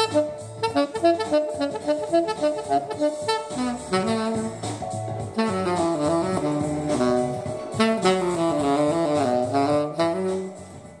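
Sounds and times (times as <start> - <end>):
saxophone playing fast jazz: 0.0 - 11.0.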